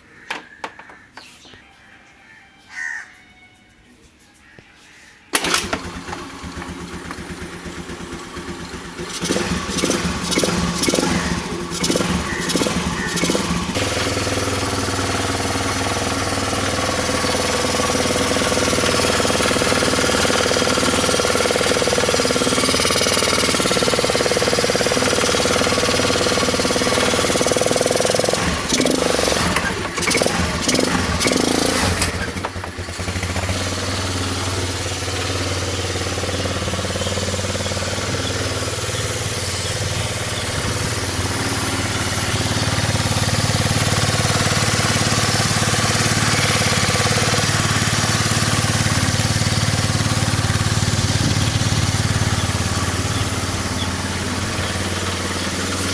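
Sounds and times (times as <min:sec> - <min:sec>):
scooter engine running: 0:05.3 - 0:55.9
engine knocks: 0:05.4 - 0:55.9.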